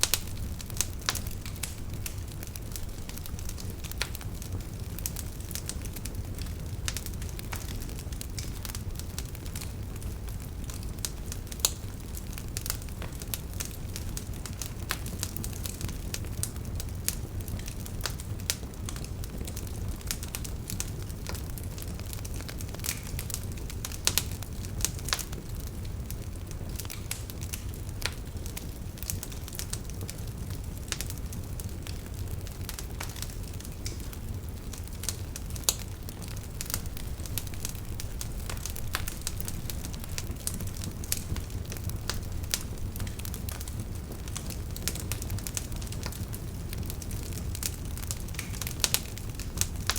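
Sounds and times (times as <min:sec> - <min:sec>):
low rumble of fire: 0:00.0 - 0:49.9
wood fire crackling and popping: 0:00.0 - 0:49.9.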